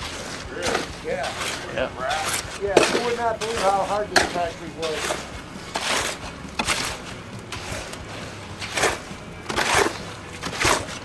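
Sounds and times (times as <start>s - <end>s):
shovel scraping wet concrete: 0.0s - 11.0s.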